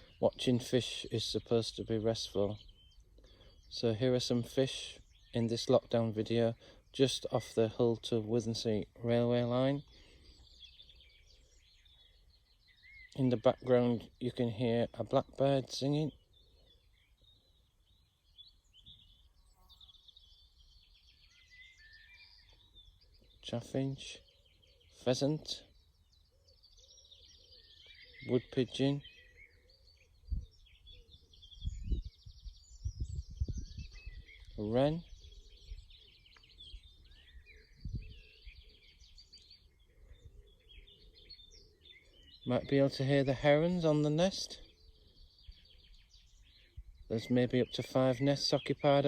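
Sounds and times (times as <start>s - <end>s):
blackbird singing: 0.0s - 49.0s
songbirds chirping and trilling: 0.0s - 49.0s.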